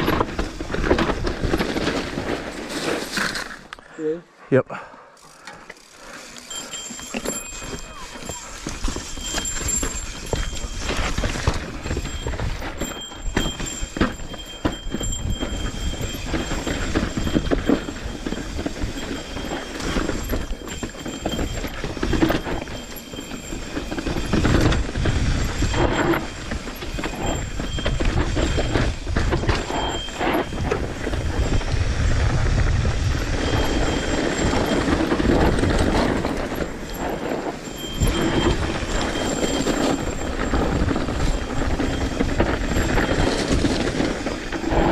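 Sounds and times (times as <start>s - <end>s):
bike rattling over bumps: 0.0s - 3.7s, 5.2s - 44.9s.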